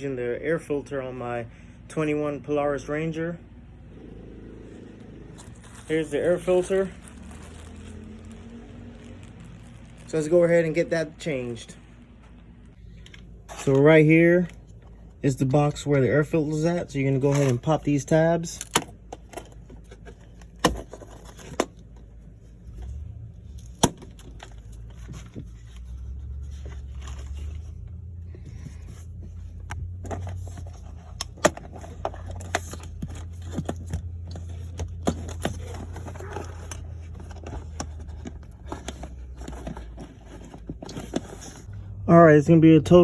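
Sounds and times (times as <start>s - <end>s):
low steady rumble: 0.0s - 43.0s
scraping and handling noise: 3.9s - 41.8s.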